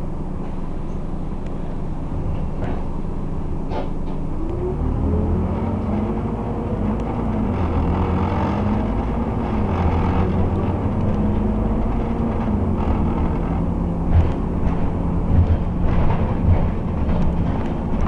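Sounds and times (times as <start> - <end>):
bus engine pulling away: 0.0 - 18.0.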